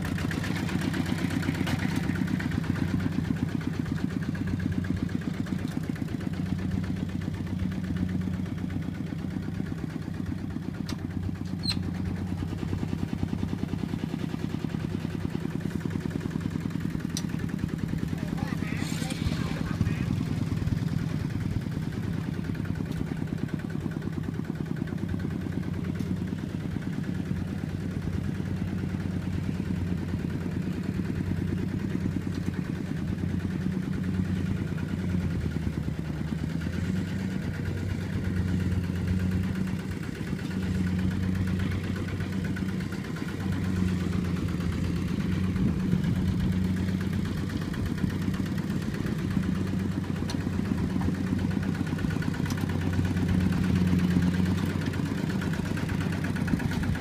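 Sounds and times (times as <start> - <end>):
single-cylinder diesel engine running: 0.0 - 57.0.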